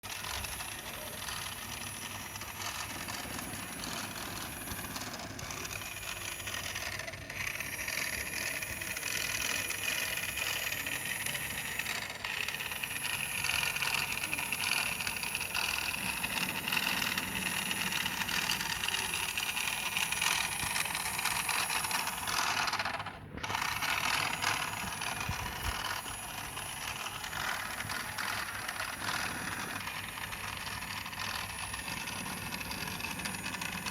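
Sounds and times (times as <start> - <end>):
toy car electric motor whirring: 0.0 - 33.9.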